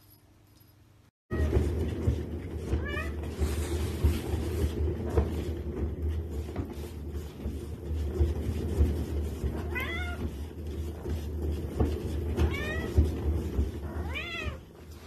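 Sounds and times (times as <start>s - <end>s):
cat exercise wheel rumbling: 1.3s - 15.0s.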